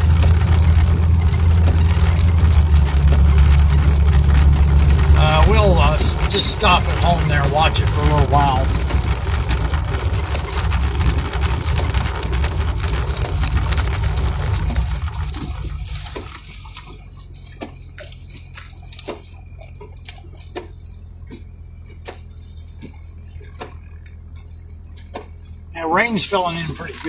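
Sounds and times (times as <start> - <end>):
car engine idling hum: 0.0 - 27.0
car road noise: 0.0 - 27.0
raindrops ticking on car: 0.0 - 27.0.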